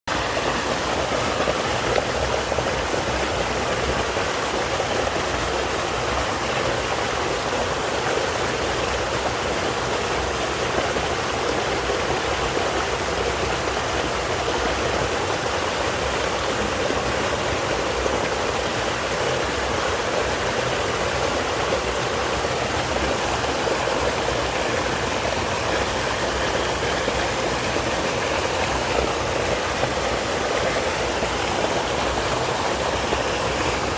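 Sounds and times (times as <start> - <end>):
waterfall pouring: 0.1 - 33.9.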